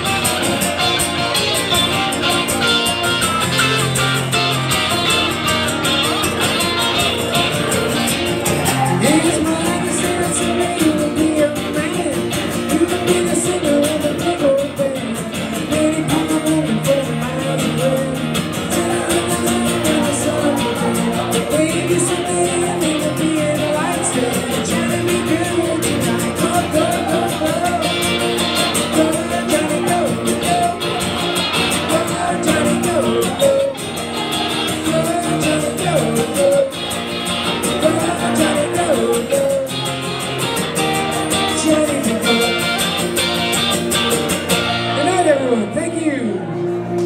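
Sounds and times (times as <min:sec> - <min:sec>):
man singing: 0:00.0 - 0:43.8, 0:44.5 - 0:46.6
acoustic guitar strumming: 0:00.0 - 0:47.0.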